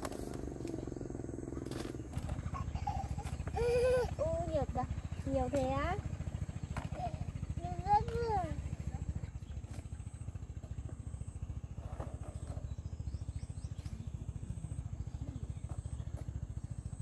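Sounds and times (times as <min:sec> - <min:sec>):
small engine throbbing: 0:00.0 - 0:17.0.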